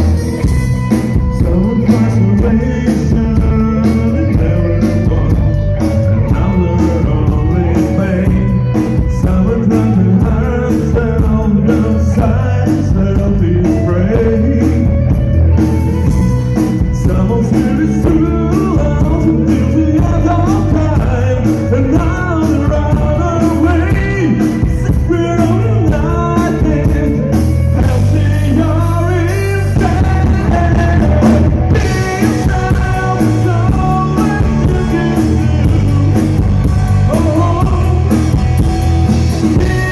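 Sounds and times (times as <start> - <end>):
rock and roll song: 0.0 - 39.9.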